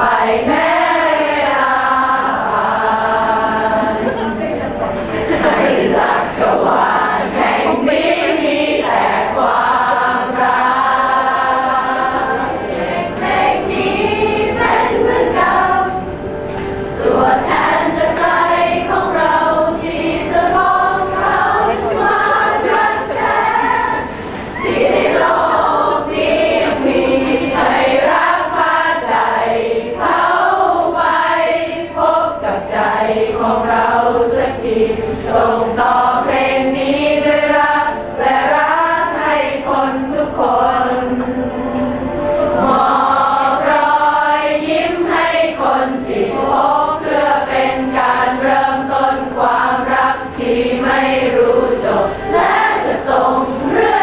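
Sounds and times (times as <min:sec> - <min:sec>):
group of voices singing: 0:00.0 - 0:54.0.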